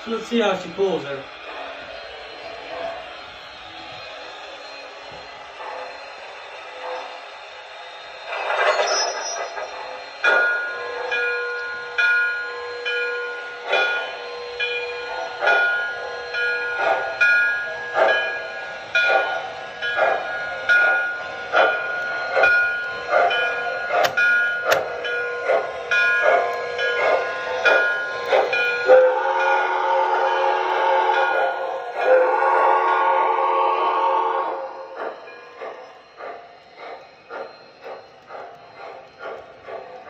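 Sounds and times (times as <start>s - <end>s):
locomotive whistle: 0.0s - 40.0s
model steam locomotive chuffing: 0.0s - 40.0s.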